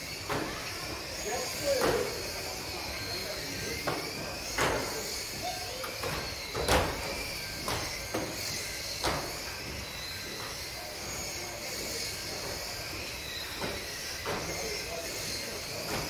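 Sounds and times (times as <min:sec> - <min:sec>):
model car motors whining: 0:00.0 - 0:16.0.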